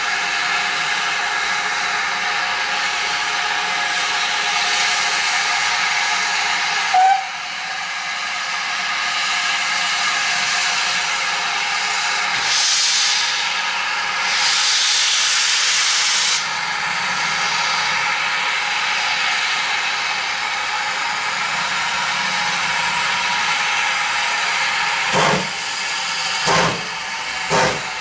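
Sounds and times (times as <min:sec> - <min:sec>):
steam locomotive hissing steam: 0:00.0 - 0:28.0.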